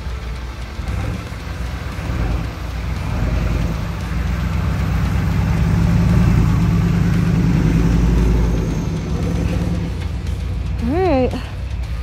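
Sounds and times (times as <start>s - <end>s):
diesel truck engine in snow: 0.0s - 12.0s.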